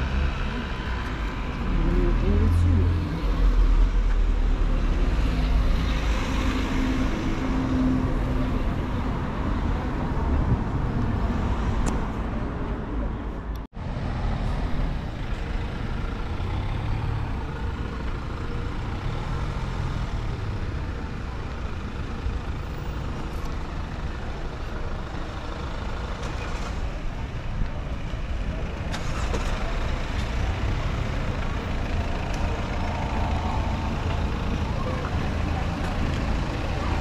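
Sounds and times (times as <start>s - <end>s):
street traffic: 0.0s - 37.0s.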